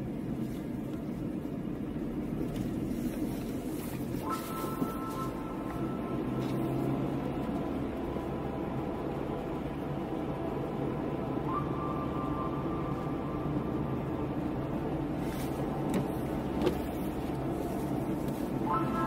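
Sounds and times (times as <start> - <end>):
car engine and tyre noise: 0.0 - 19.0.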